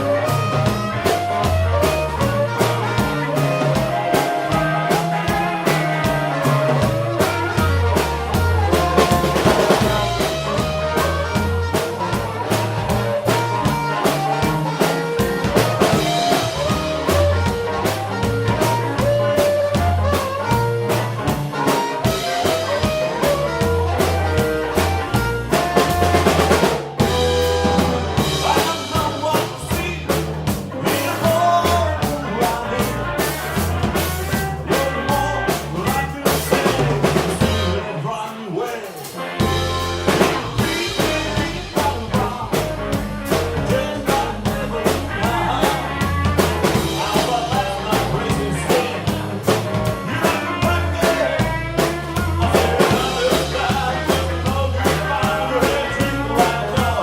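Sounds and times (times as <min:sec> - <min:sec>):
harmonica melody: 0:00.0 - 0:30.2, 0:30.9 - 0:38.0, 0:39.2 - 0:57.0
drum kit beat: 0:00.0 - 0:38.0, 0:38.7 - 0:57.0
bass line: 0:00.0 - 0:38.1, 0:39.3 - 0:57.0.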